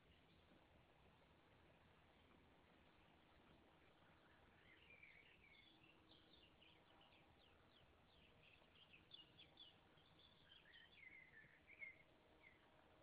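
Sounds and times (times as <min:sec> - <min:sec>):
low background hiss: 0:00.0 - 0:13.0
songbird chirping: 0:00.0 - 0:13.0.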